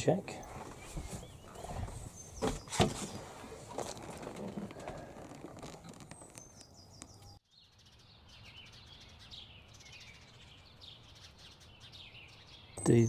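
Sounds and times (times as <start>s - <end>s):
high chirping birdsong: 0.4s - 13.0s.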